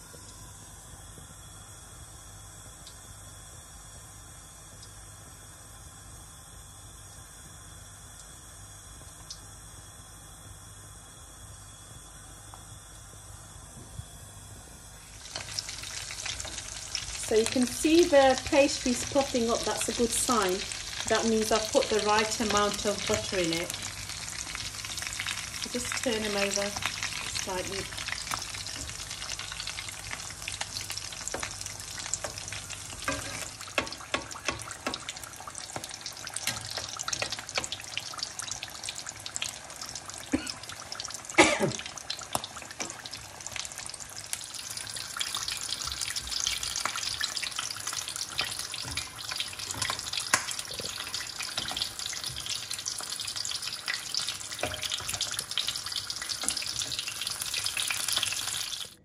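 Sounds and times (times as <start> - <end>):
deep-frying oil sizzling: 0.0 - 59.0.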